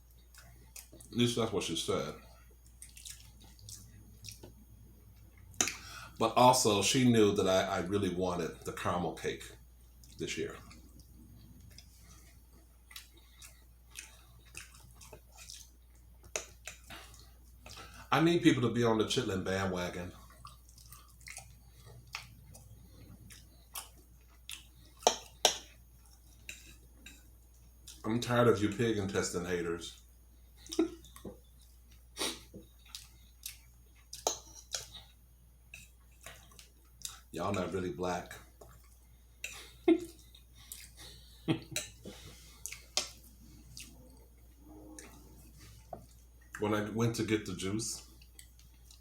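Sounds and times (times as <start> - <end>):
mouth chewing food: 0.0 - 1.2, 2.1 - 6.3, 9.5 - 18.5, 19.6 - 29.0, 29.9 - 46.7, 48.0 - 49.0.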